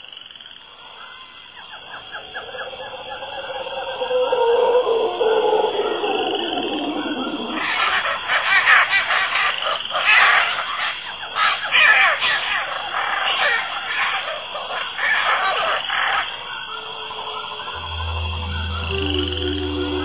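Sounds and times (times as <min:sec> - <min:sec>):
wild animal calls chorus: 0:00.7 - 0:20.0.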